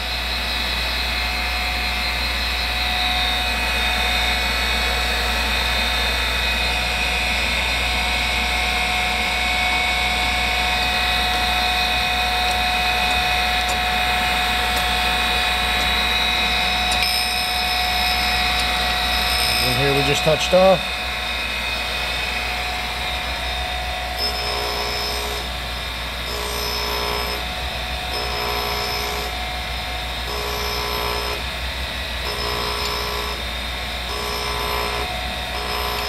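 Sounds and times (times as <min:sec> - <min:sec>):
grinder spindle humming: 0:00.0 - 0:36.0.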